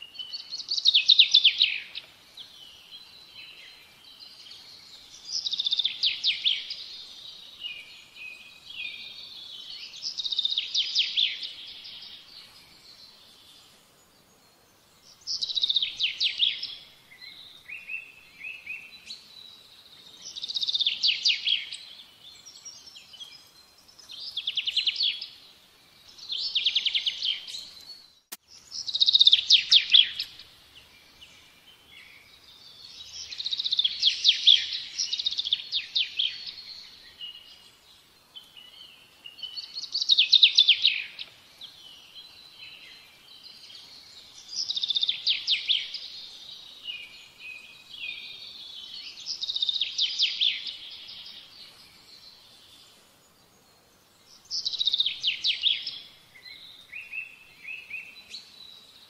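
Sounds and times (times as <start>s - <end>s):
songbird chirps and trills: 0.0s - 59.0s.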